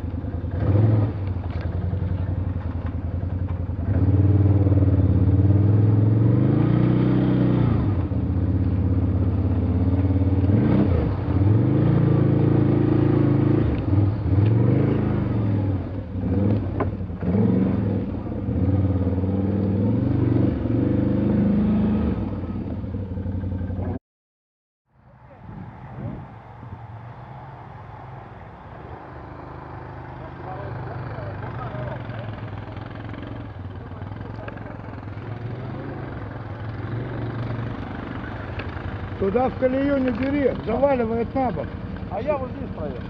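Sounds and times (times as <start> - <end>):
quad bike engine revving: 0.0 - 24.0, 29.0 - 43.0.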